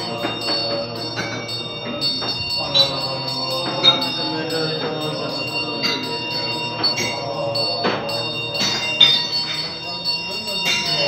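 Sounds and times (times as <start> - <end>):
metal bells ringing: 0.0 - 11.0.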